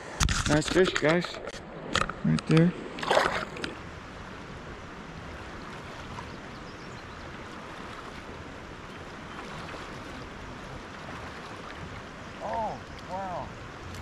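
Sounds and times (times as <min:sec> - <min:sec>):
river water flowing over stones: 0:00.0 - 0:06.4, 0:07.3 - 0:14.0.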